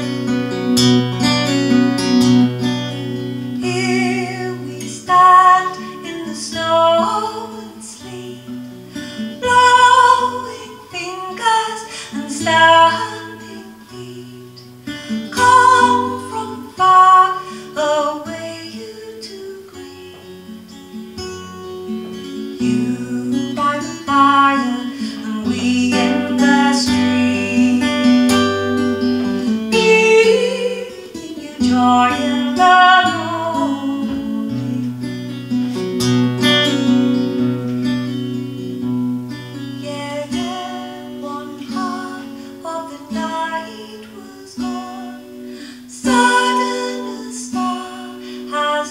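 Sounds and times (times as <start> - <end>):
acoustic guitar: 0.0 - 48.9
woman singing: 1.2 - 35.6, 39.3 - 48.9.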